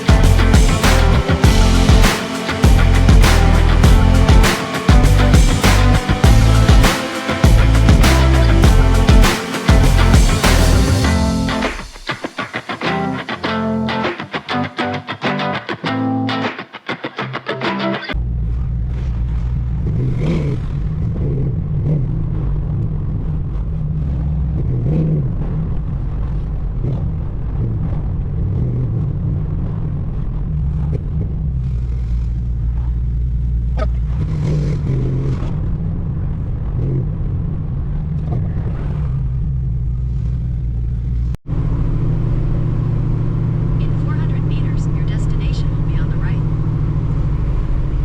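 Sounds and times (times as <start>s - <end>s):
car engine and road drone: 0.0s - 12.1s, 18.1s - 48.0s.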